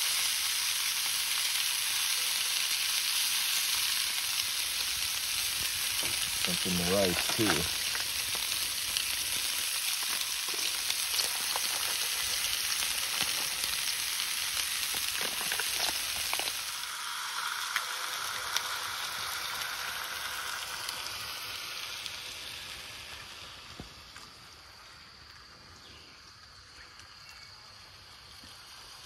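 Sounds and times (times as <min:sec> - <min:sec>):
food sizzling in a skillet: 0:00.0 - 0:29.0.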